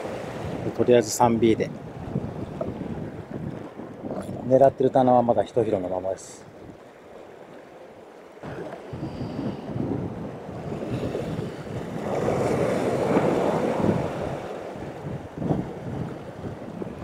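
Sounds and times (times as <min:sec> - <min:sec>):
wind buffeting microphone: 0:00.0 - 0:07.0, 0:08.4 - 0:17.0
waves breaking over rocks: 0:00.0 - 0:17.0.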